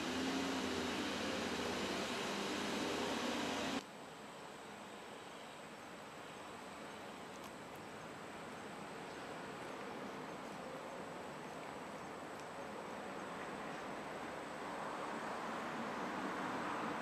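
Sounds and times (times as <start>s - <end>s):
faint high-pitched whine: 0.0s - 14.8s
outdoor background hiss: 0.0s - 17.0s.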